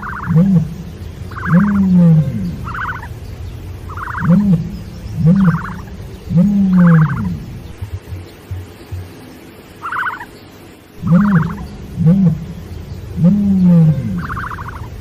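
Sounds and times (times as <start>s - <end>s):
low rising and falling animal calls: 0.0s - 9.1s, 9.8s - 10.4s, 11.0s - 15.0s.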